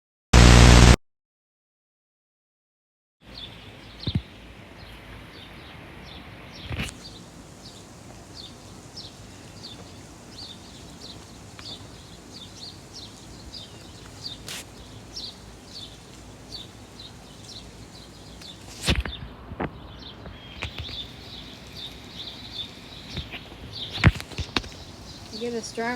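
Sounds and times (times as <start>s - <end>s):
outdoor background hiss: 3.2s - 25.9s
bird chirping: 3.3s - 25.9s.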